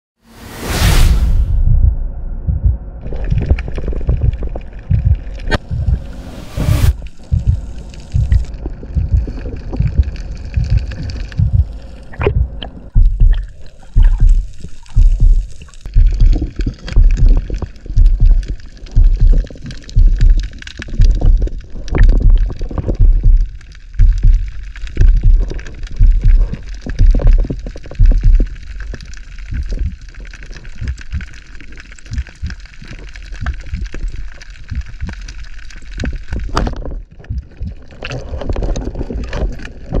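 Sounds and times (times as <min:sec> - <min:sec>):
underwater thumps and water rush: 0:00.6 - 0:40.0.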